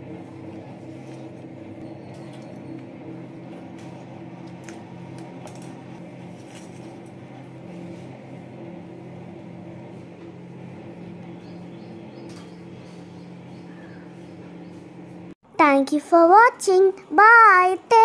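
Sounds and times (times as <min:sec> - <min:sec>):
small motor humming: 0:00.0 - 0:15.3.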